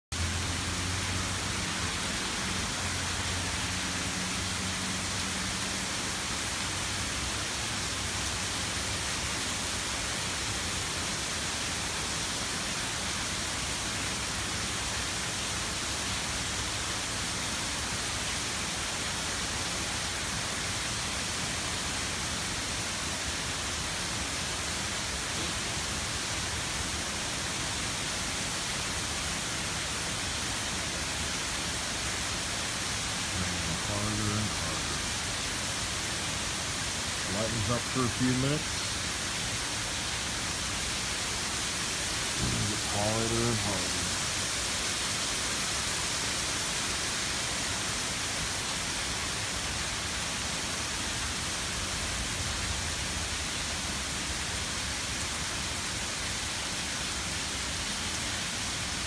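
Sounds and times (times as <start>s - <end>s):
heavy rain falling: 0.1s - 59.0s.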